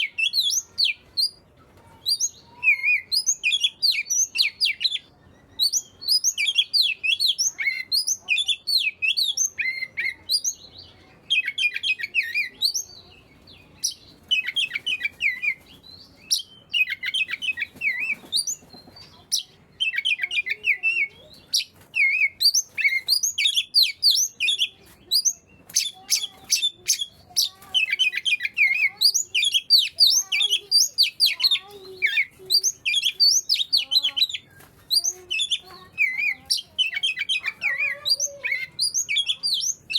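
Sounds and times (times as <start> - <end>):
bird singing chirps and whistles: 0.0 - 1.4, 2.1 - 39.9.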